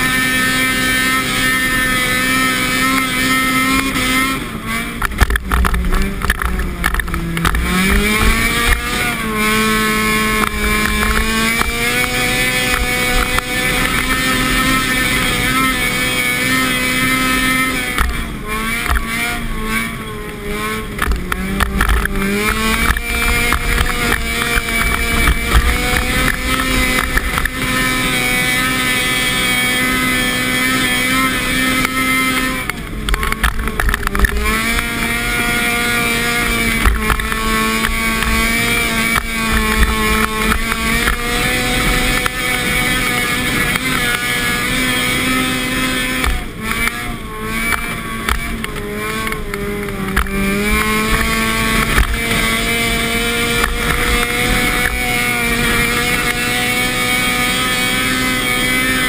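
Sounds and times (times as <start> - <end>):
car engine under load: 0.0 - 59.0
wind and tyre noise: 0.0 - 59.0.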